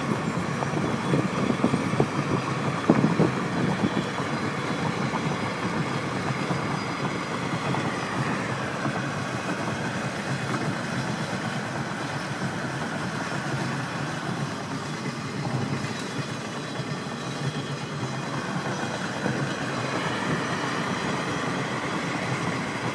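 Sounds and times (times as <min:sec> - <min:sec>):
car tyre and wind noise: 0:00.0 - 0:22.9
freight train running: 0:00.0 - 0:22.9.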